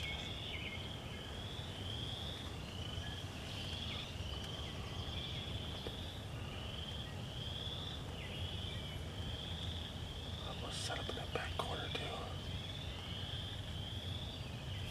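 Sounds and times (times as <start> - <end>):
low outdoor rumble: 0.0 - 14.9.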